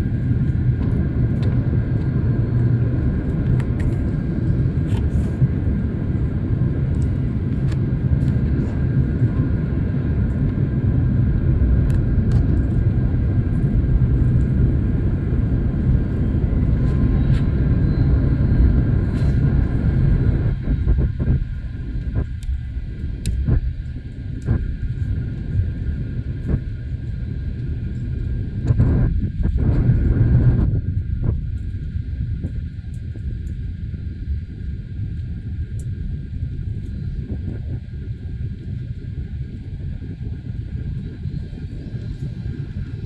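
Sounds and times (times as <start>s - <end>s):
faint steady whine: 0.0s - 43.0s
jet engine and airflow rumble: 0.0s - 43.0s.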